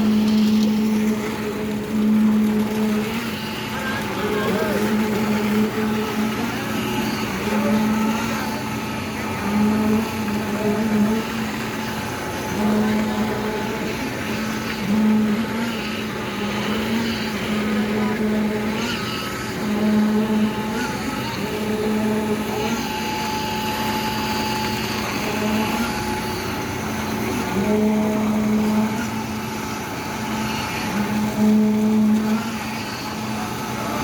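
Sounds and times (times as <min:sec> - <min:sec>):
concrete pump truck engine: 0:00.0 - 0:34.0.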